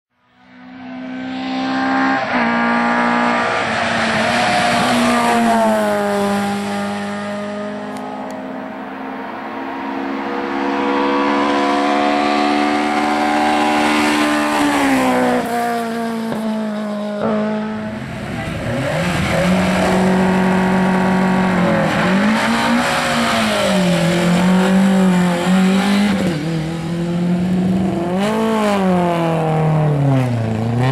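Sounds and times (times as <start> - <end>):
rally car engine at high revs: 0.6 - 30.9.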